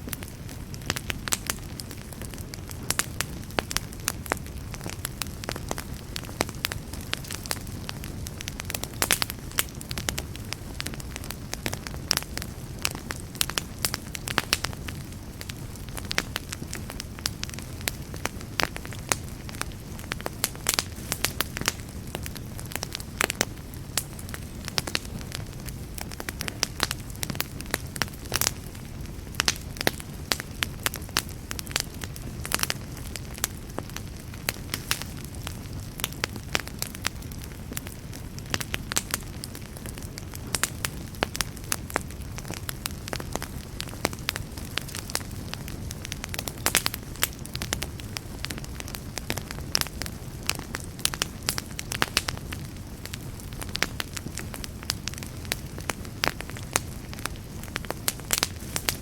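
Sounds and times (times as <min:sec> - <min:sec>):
campfire crackling: 0:00.0 - 0:59.0
low rumble of burning fire: 0:00.0 - 0:59.0.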